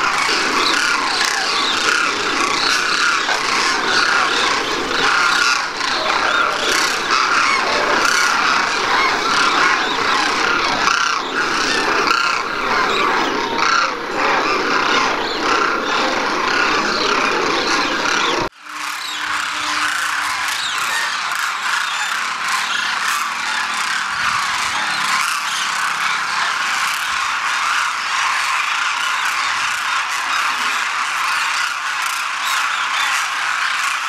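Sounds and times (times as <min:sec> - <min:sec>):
cranes honking calls: 0:00.0 - 0:34.0.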